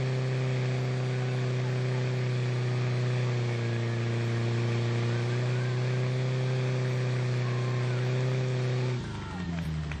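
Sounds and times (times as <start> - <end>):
pump engine running at high revs: 0.0 - 10.0.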